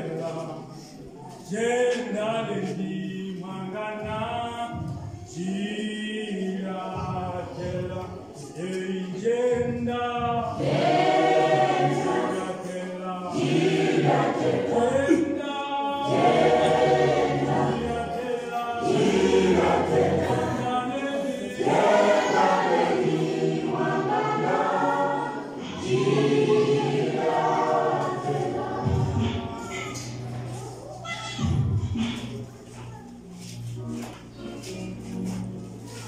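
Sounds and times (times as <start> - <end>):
choir singing a gospel song: 0.0 - 30.7.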